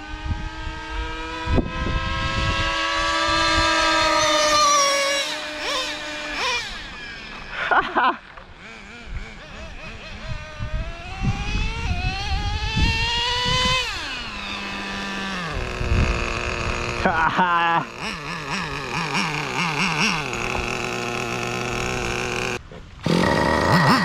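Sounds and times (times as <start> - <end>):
toy truck nitro engine revving: 2.8 - 24.0.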